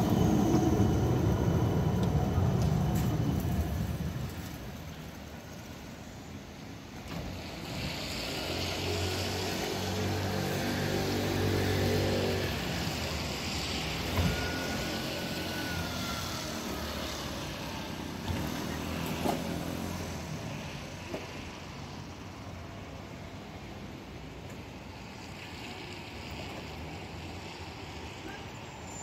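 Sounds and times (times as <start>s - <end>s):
tram electric drive humming: 0.0s - 25.3s.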